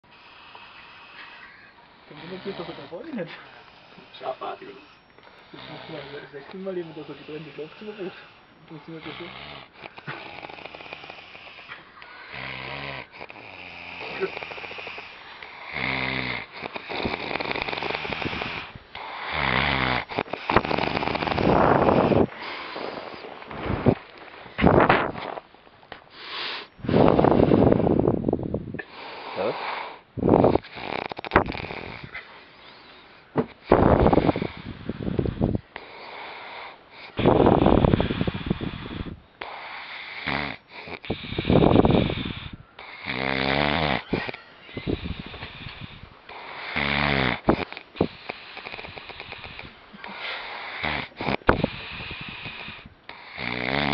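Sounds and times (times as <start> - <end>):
man snoring: 0.0 - 25.4, 28.8 - 32.3, 33.6 - 53.9
quiet breaths: 0.0 - 53.9.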